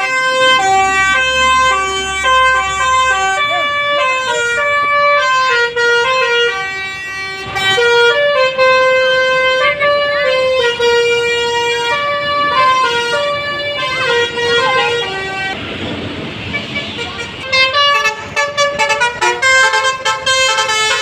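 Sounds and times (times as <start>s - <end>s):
multi-tone musical air horn: 0.0s - 15.6s, 16.5s - 21.0s.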